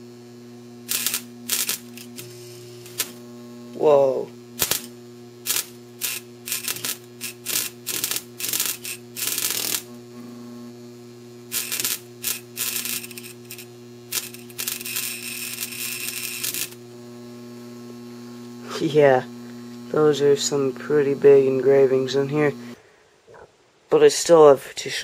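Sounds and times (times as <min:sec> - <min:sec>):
transformer humming: 0:00.0 - 0:22.8
electric sparks crackling: 0:00.8 - 0:10.7, 0:11.4 - 0:22.8.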